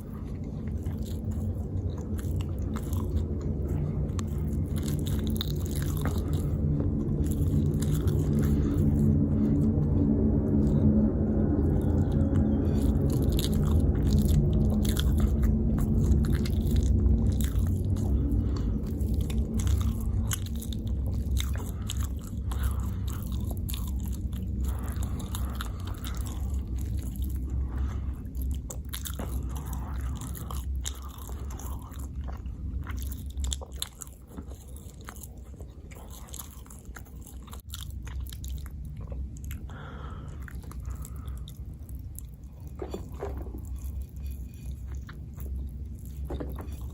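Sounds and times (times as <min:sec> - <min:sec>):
chewing and biting food: 0:00.0 - 0:46.9
steady low hum: 0:00.0 - 0:46.9.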